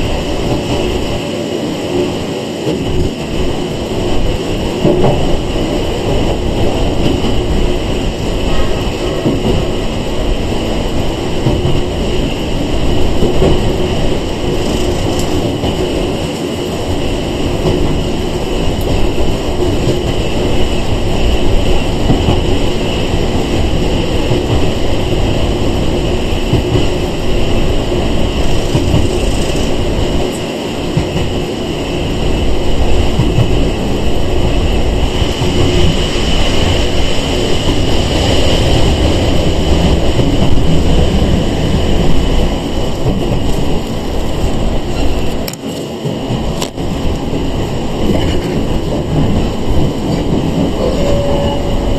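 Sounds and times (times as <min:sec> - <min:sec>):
high train whine: 0:00.0 - 0:51.9
train wheels rumbling on rail: 0:00.0 - 0:51.9.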